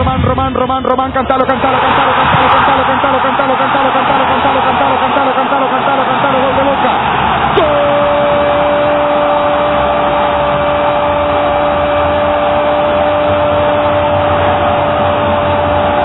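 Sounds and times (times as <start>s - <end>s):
commentator shouting goal: 0.0s - 14.3s
stadium crowd cheering: 1.2s - 16.0s.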